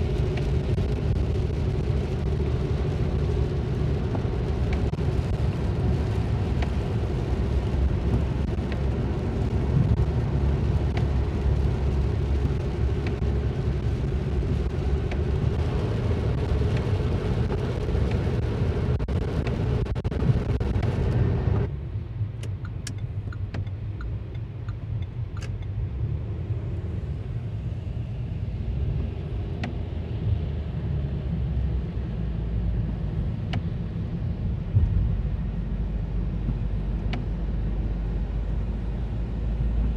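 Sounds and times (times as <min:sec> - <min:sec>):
engine and road hum: 0:00.0 - 0:39.9.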